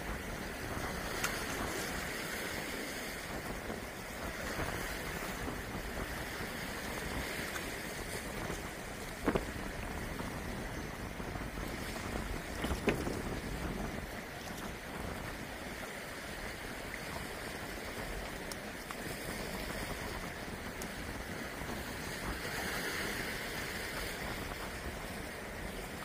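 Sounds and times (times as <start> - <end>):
waves washing on rocky shore: 0.0 - 26.0
wind rumbling on microphone: 0.0 - 26.0.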